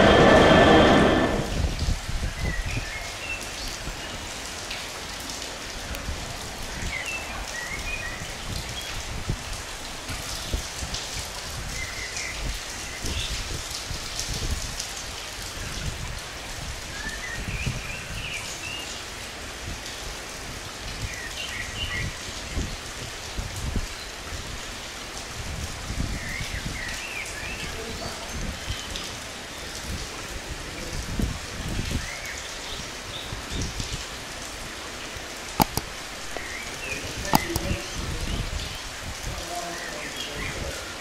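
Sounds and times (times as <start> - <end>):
rain falling and spattering: 0.0 - 41.0.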